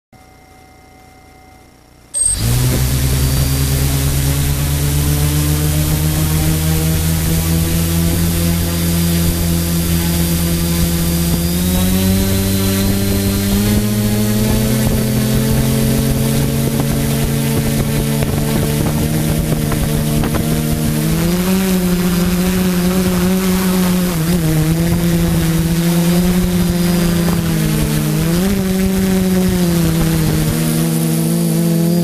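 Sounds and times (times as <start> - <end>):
drone motors buzzing: 2.2 - 32.0.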